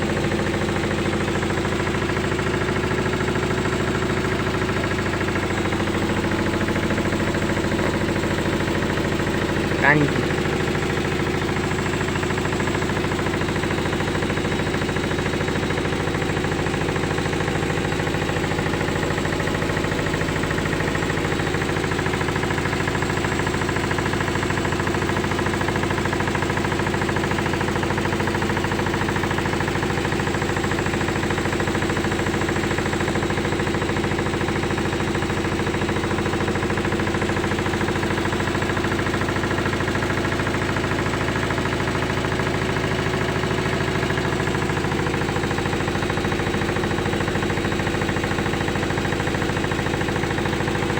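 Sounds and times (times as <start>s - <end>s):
washing machine spinning: 0.0s - 50.9s.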